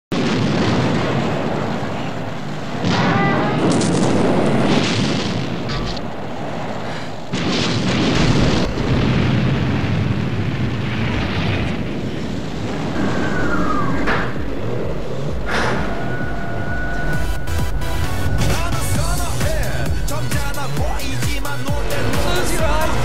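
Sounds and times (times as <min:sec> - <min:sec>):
explosions: 0:00.1 - 0:23.0
rumble of fire: 0:00.1 - 0:23.0.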